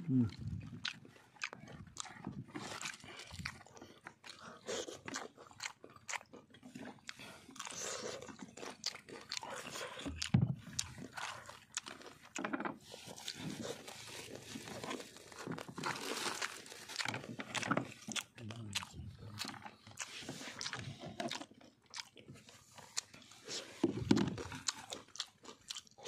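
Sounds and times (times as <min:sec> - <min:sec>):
crunching and chewing: 0:00.1 - 0:26.0.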